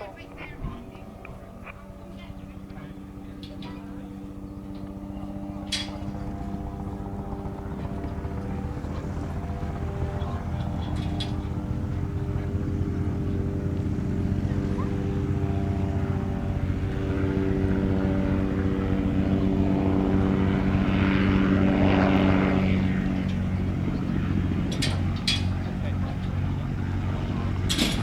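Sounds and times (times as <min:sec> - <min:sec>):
propeller aircraft engine: 0:00.0 - 0:28.0.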